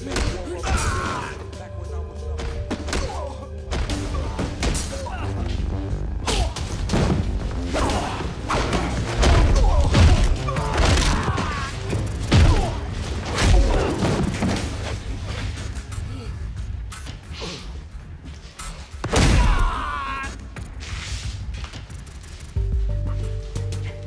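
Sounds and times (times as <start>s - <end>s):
dramatic music score: 0.0s - 24.0s.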